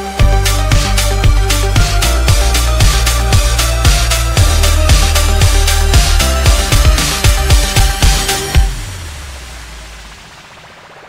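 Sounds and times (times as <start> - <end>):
electronic music with bass kicks: 0.0 - 10.3.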